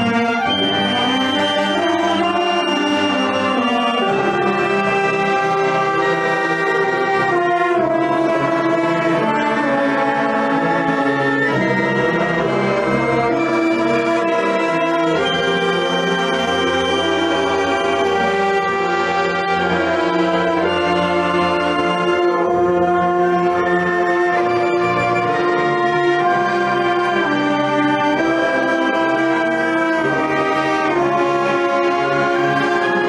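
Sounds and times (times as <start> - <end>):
marching band playing held chords: 0.0 - 33.0.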